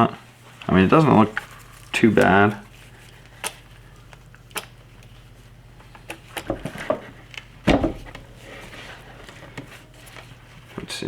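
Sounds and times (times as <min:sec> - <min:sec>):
low steady hum: 0:00.2 - 0:11.0.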